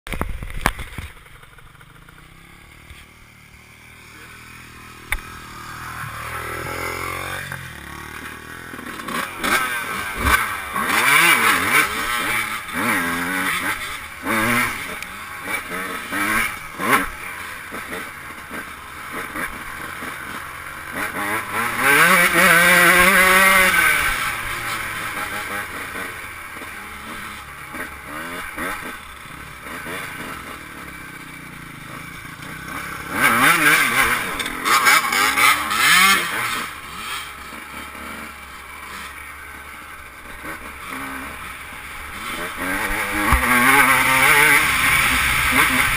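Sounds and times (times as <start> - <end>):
motorcycle engine idling and revving: 0.1 - 45.9.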